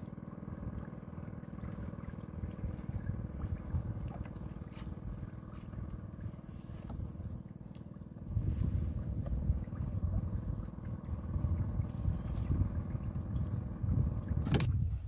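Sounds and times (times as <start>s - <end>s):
low rumble of wind or water: 0.0s - 15.0s
small boat engine humming: 0.0s - 15.0s.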